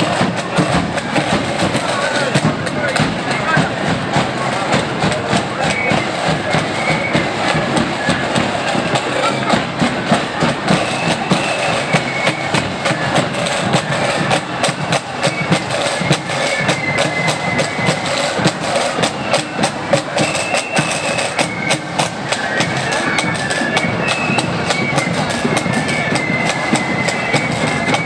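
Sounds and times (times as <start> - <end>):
flutes playing melody: 0.0 - 28.0
rapid snare drum strokes: 0.0 - 28.0.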